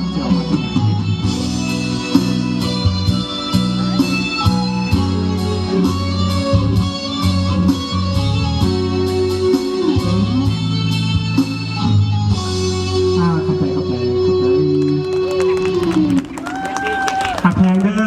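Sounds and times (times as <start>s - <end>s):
instrumental band music: 0.0s - 17.4s
guitar: 0.0s - 18.0s
keyboard: 0.0s - 18.0s.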